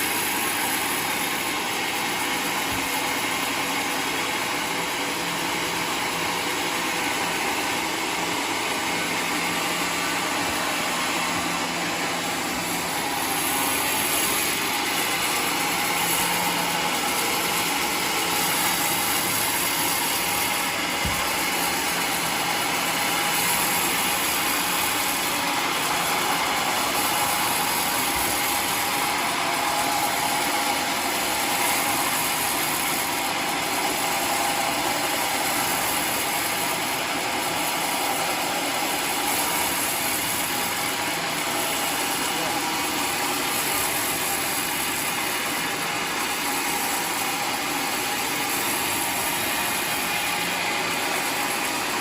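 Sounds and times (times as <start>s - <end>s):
sawmill engine and saw running: 0.0s - 52.0s.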